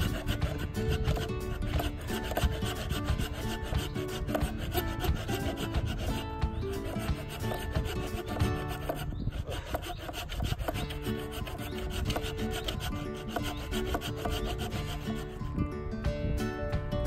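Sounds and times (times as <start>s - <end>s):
hand saw rasping through wood: 0.0s - 15.5s
background music: 0.0s - 17.0s.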